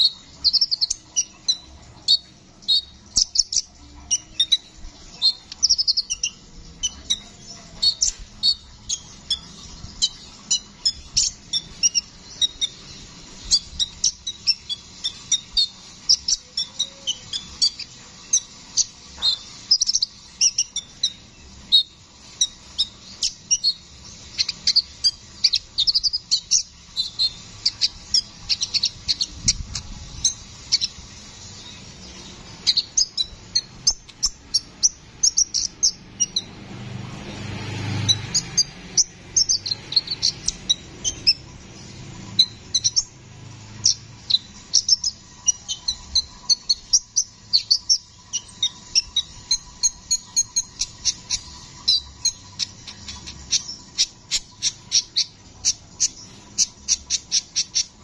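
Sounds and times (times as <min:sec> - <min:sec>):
bird chirping and twittering: 0:00.0 - 0:58.0.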